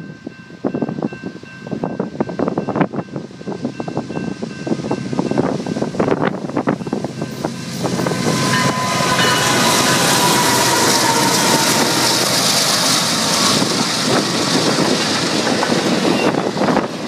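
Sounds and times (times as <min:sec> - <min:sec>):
diesel locomotive engines: 0:00.0 - 0:17.0
train wheels clacking on rails: 0:01.7 - 0:17.0.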